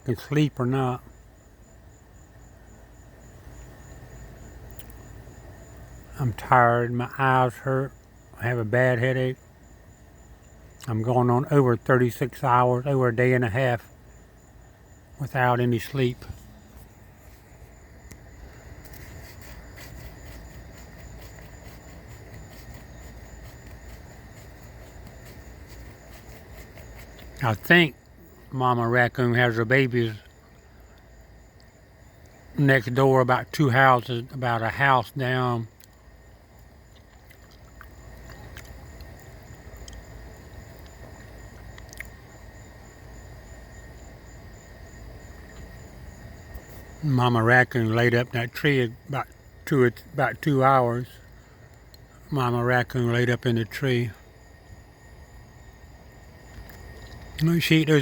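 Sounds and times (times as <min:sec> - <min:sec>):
crickets trilling: 0:00.0 - 0:58.0
insect drone: 0:00.0 - 0:58.0.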